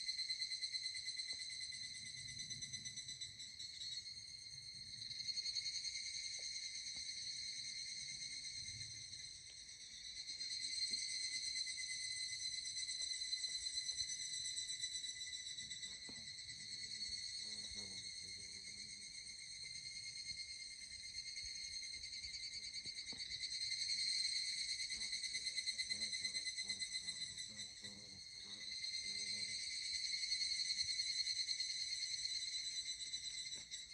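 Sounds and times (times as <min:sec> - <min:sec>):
cicada ringing trill: 0:00.0 - 0:33.9.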